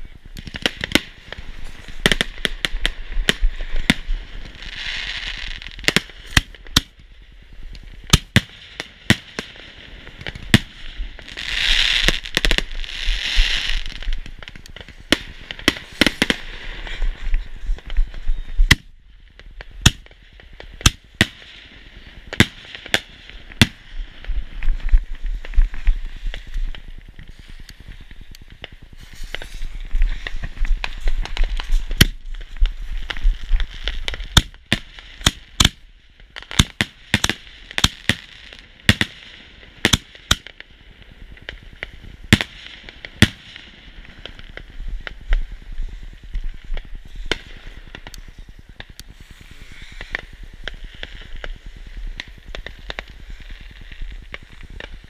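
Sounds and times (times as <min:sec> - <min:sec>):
fireworks hissing: 0:00.0 - 0:35.7, 0:41.0 - 0:55.0
fireworks bangs and pops: 0:00.0 - 0:55.0.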